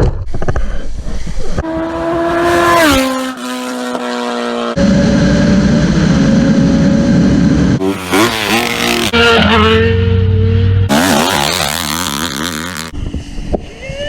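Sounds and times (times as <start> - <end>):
engine revving: 1.6 - 12.9.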